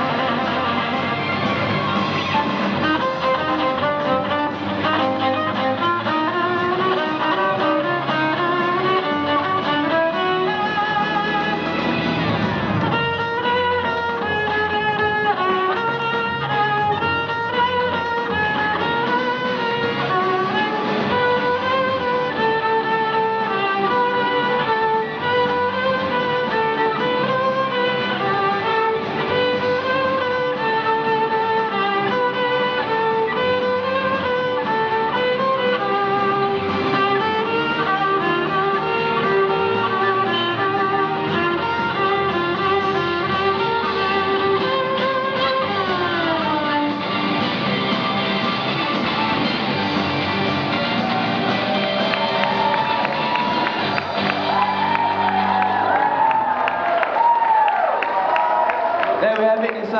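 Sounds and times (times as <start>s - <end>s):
violin playing lively melody: 0.0s - 56.3s, 59.2s - 59.9s.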